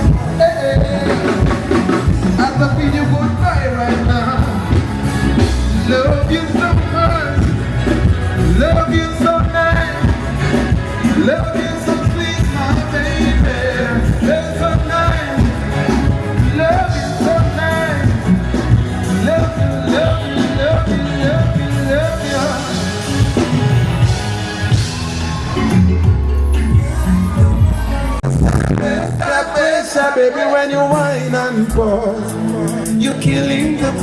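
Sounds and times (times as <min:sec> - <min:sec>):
live band music with singing: 0:00.0 - 0:34.0.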